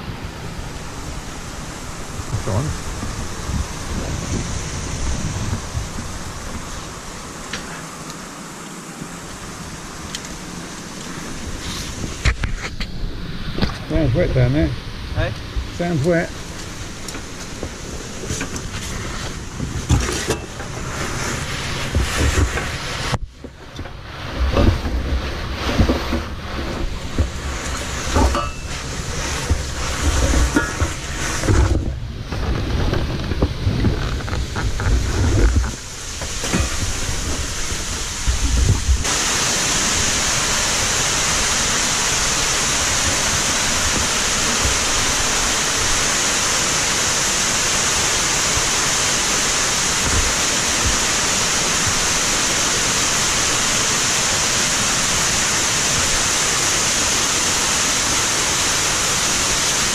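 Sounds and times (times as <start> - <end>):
rush of falling water: 0.0 - 59.9.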